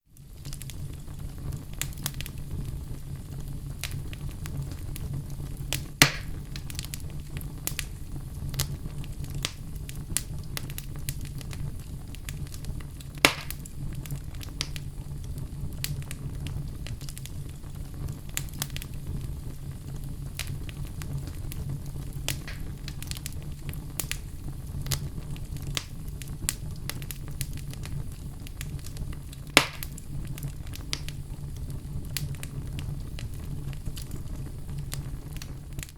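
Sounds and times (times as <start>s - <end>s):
fire crackling: 0.0s - 35.9s
fire rumbling: 0.0s - 35.9s
loud fire pops: 0.2s - 35.9s.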